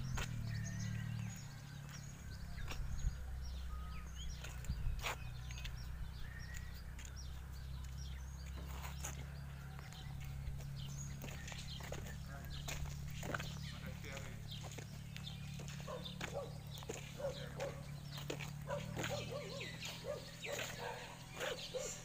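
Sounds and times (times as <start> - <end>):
diesel engine idling: 0.0 - 4.7, 5.4 - 22.0
small birds chirping: 0.0 - 22.0.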